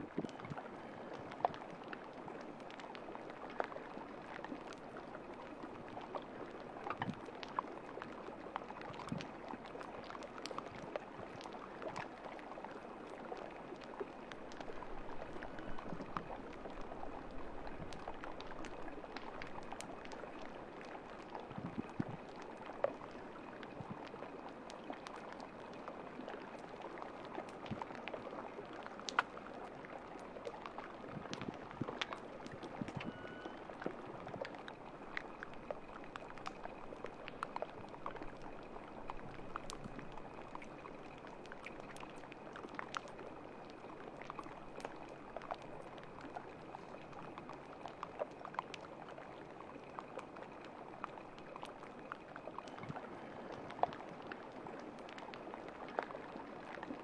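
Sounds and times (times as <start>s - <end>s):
small ticks and crackles: 0.0s - 57.0s
water trickling and fizzing: 0.0s - 57.0s.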